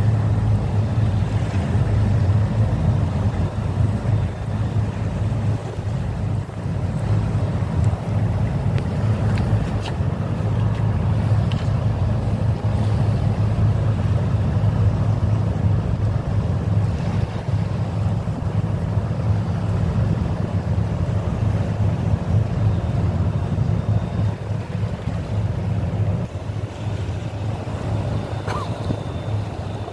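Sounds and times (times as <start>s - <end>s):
boat engine hum: 0.0s - 29.9s
rushing water: 0.0s - 29.9s
wind: 0.0s - 29.9s.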